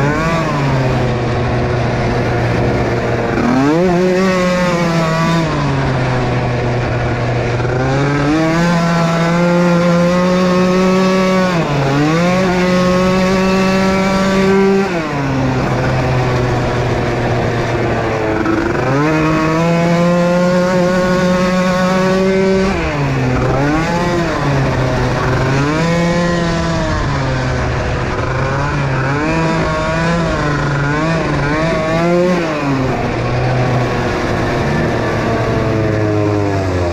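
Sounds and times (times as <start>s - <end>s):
atv engines revving: 0.0s - 36.9s.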